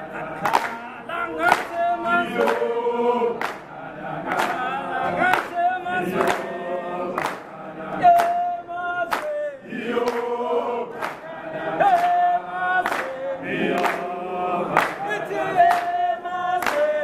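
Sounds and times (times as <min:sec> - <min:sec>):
crowd singing in chorus: 0:00.0 - 0:17.0
hands clapping in time: 0:00.2 - 0:17.0.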